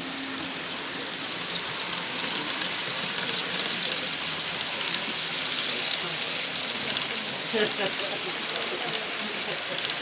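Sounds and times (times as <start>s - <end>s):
model train wheels rattling on rail: 0.0s - 10.0s.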